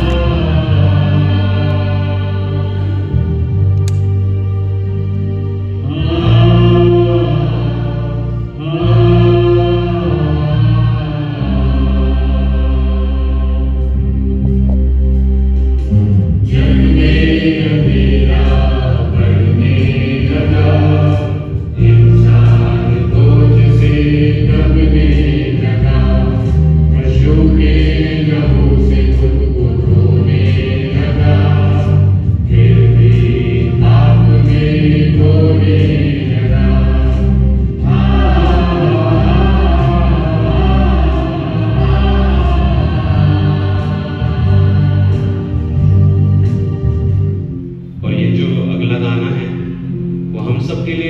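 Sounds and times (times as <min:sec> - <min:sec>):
group singing a hymn: 0:00.0 - 0:04.0, 0:05.0 - 0:14.8, 0:16.4 - 0:48.6
bass line: 0:00.0 - 0:51.0.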